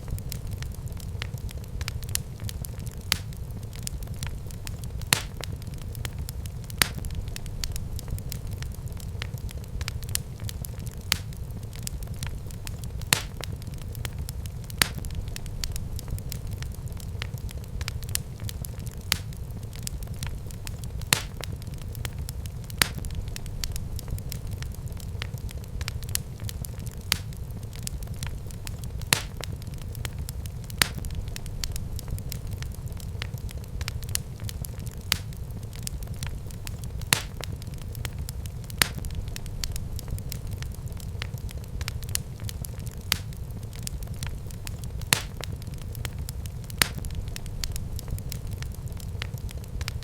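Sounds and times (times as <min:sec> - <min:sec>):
fire sharp pops: 0:00.0 - 0:50.0
wood fire crackling: 0:00.0 - 0:50.0.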